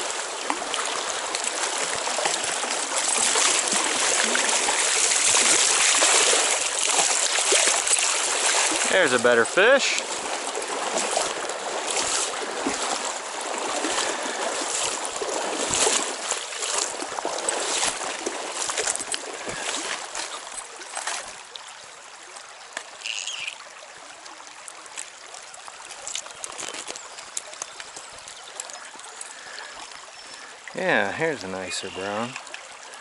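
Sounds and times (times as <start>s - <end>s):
stream flowing: 0.0s - 33.0s
water splashing: 0.0s - 33.0s.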